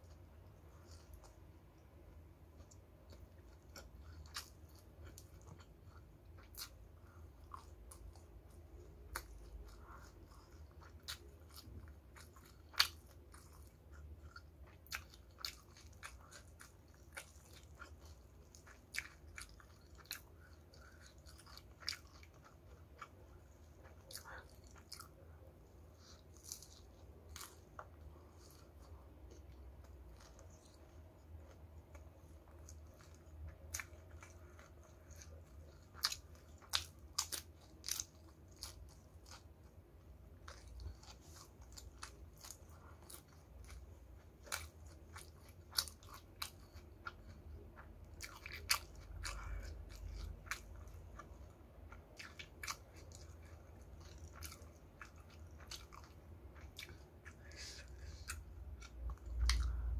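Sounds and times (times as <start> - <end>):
faint low hum: 0.0 - 59.9
crunching fried chicken: 2.6 - 25.2, 31.4 - 59.9.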